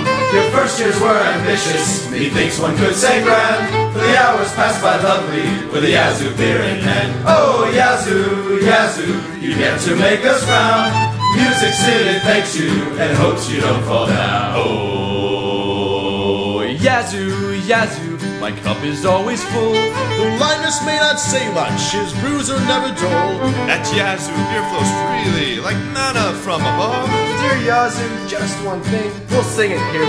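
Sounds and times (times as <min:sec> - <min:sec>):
bluegrass fiddle music: 0:00.0 - 0:14.2, 0:18.4 - 0:30.0.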